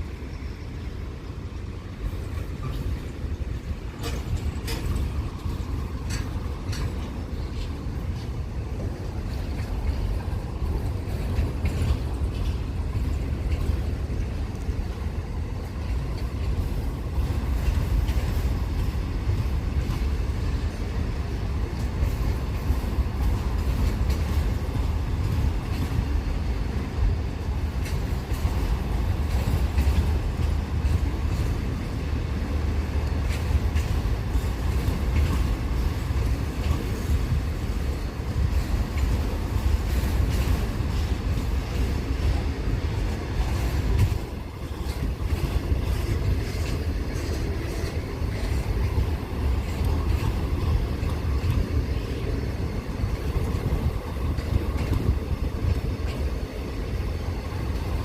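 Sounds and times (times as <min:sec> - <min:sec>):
faint clicks from rails: 0:00.0 - 0:58.0
freight train rumbling: 0:00.0 - 0:58.0.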